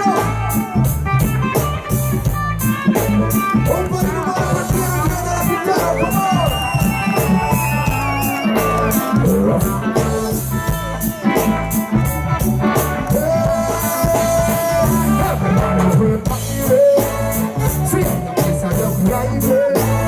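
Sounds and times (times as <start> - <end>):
live reggae band playing: 0.0 - 20.0.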